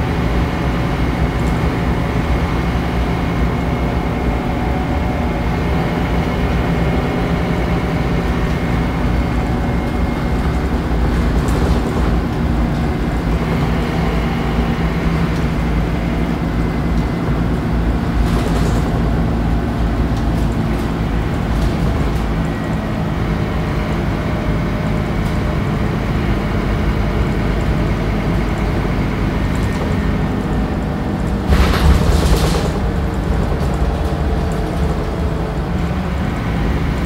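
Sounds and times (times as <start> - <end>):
bus diesel engine running: 0.0 - 37.0.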